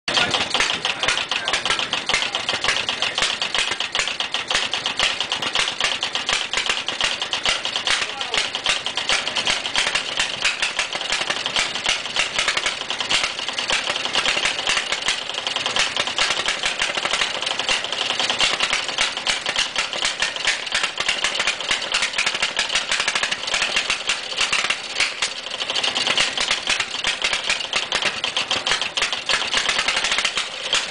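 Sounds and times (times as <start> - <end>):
outboard motor clattering: 0.1 - 30.9.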